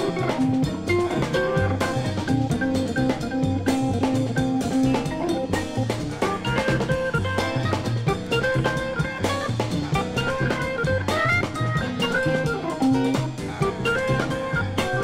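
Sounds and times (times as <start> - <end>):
bass: 0.0 - 15.0
drum kit steady beat: 0.0 - 15.0
guitar: 0.0 - 15.0
instrumental soul-jazz groove: 0.0 - 15.0.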